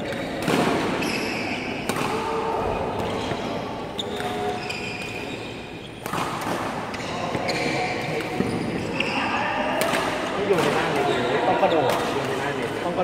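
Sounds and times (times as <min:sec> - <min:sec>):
rackets hitting shuttlecocks: 0:00.0 - 0:05.3, 0:06.0 - 0:08.9, 0:09.7 - 0:13.0.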